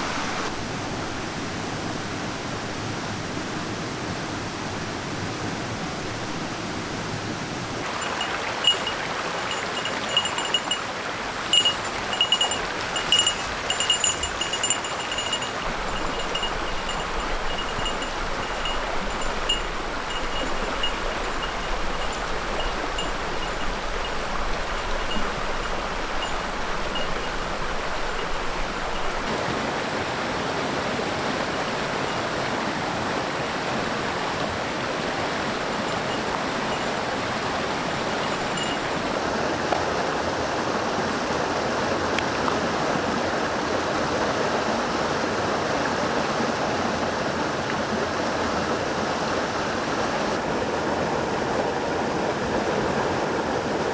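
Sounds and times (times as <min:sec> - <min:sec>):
stream water rushing: 0:07.5 - 0:53.9.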